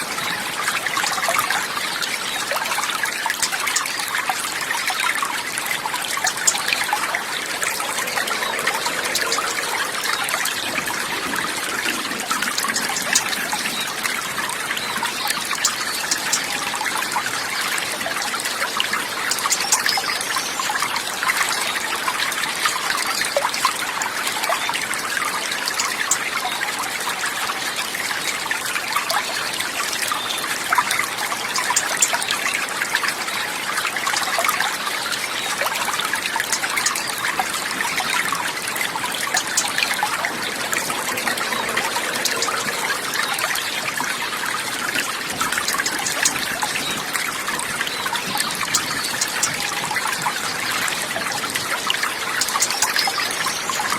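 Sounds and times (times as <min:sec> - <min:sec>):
running water babbling: 0:00.0 - 0:53.9.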